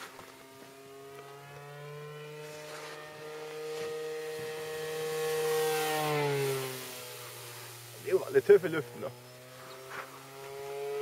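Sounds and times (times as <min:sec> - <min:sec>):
model plane engine buzzing: 0:00.0 - 0:11.0.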